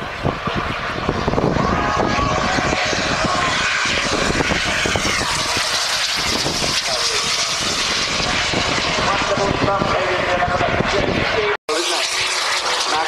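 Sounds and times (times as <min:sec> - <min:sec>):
model aircraft engine droning: 0:00.0 - 0:13.0.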